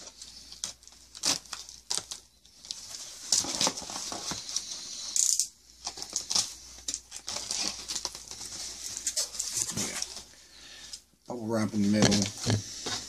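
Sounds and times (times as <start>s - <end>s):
cardboard packaging rustling: 0.0s - 10.4s, 11.8s - 13.0s.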